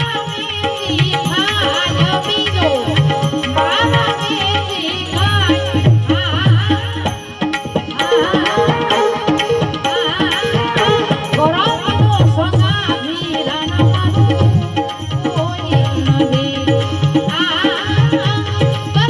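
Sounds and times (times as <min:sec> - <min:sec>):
tabla and percussion: 0:00.0 - 0:19.0.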